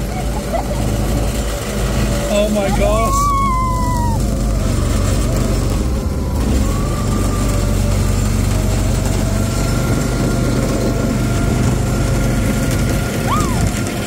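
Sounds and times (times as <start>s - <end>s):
go-kart engine droning: 0.0s - 14.0s.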